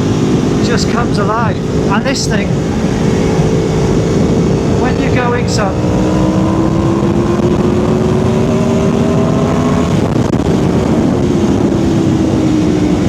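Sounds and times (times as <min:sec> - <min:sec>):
motorcycle engine under power: 0:00.0 - 0:13.0
wind rushing over microphone: 0:00.0 - 0:13.0.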